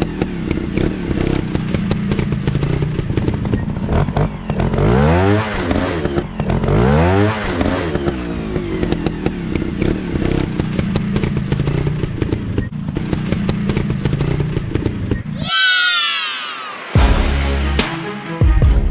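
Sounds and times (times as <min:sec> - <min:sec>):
dirt bike engine revving: 0:00.0 - 0:15.4.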